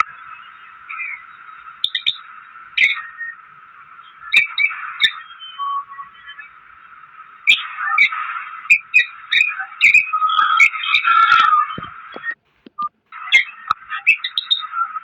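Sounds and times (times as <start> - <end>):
parrot chirps and squawks: 0.2 - 3.4, 4.0 - 6.6, 7.4 - 12.4, 13.2 - 15.0.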